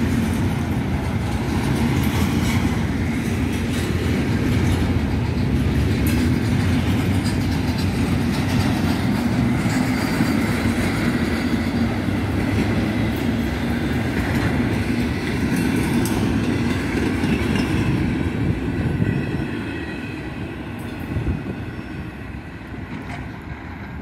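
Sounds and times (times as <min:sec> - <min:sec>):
wheels clicking over rail joints: 0:00.0 - 0:21.8, 0:22.6 - 0:24.0
freight train wheels rumbling: 0:00.0 - 0:24.0.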